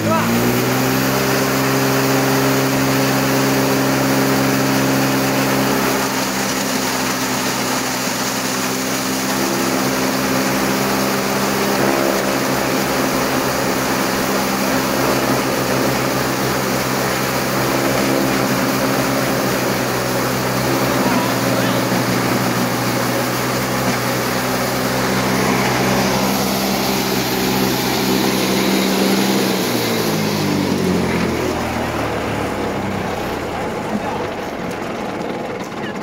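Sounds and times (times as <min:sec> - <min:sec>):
electric chaff cutter humming: 0:00.0 - 0:36.0.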